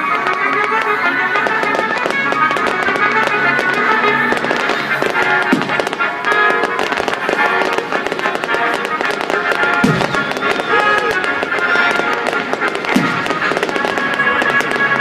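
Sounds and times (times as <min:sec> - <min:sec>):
fireworks crackling and popping: 0:00.0 - 0:15.0
music with sustained notes: 0:00.0 - 0:15.0.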